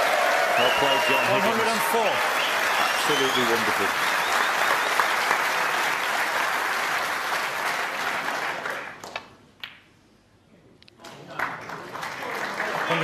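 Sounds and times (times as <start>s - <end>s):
crowd applauding: 0.0s - 9.2s, 11.1s - 13.0s.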